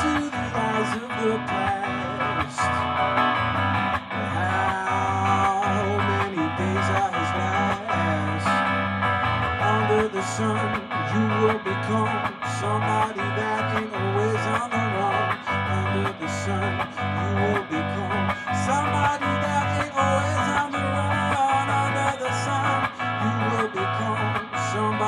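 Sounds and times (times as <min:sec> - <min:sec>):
electric guitar strummed: 0:00.0 - 0:25.0.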